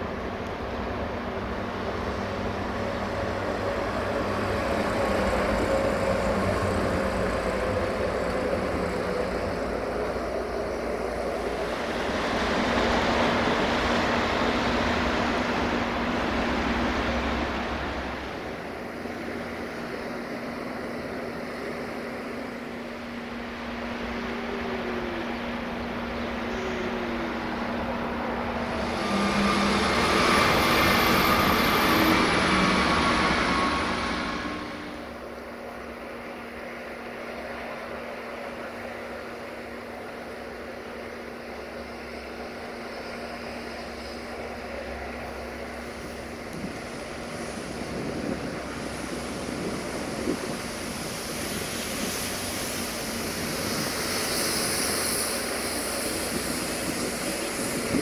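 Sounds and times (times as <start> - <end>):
locomotive engine drone: 0.0 - 58.0
outdoor noise: 0.0 - 58.0.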